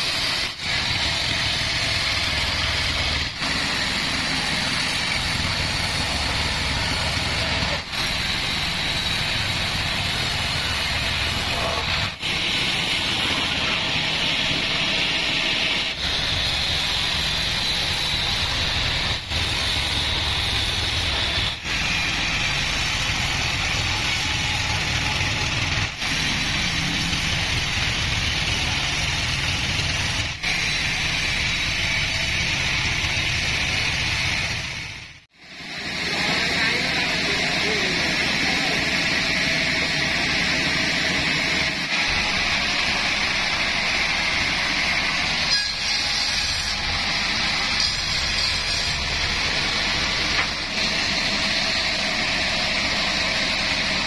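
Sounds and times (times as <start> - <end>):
saw blade hissing through wood: 0.0 - 54.0
sawmill machine rumble: 0.0 - 54.0.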